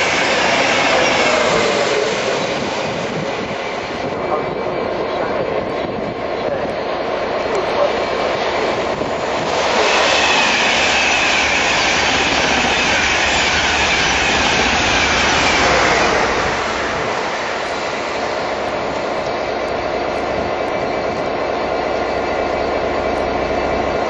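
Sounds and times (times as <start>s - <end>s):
train rushing past: 0.0s - 24.0s.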